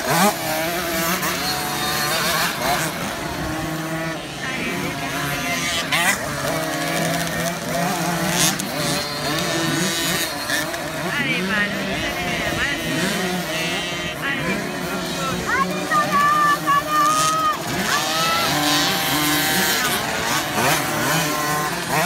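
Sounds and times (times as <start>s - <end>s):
motocross bike engines racing: 0.0s - 22.0s.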